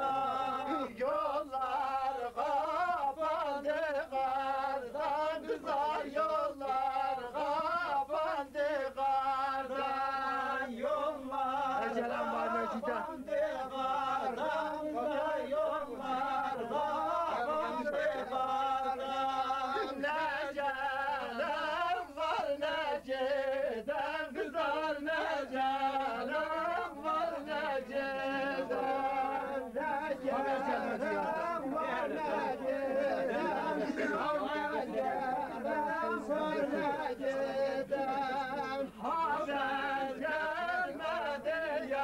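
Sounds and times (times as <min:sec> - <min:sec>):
men singing together: 0:00.0 - 0:42.0.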